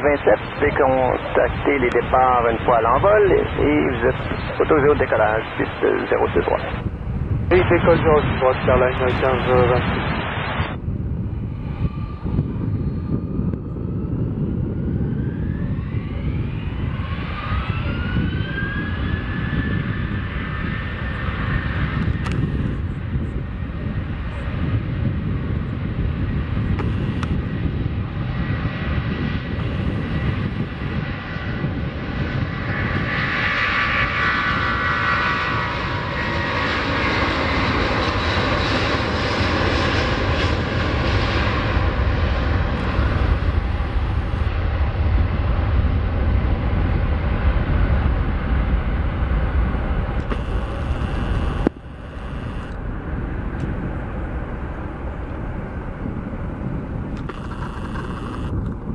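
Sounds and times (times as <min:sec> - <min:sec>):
deep rumble of airliner taking off: 0:00.0 - 0:58.9
jet engines roaring with high whine: 0:00.0 - 0:58.9.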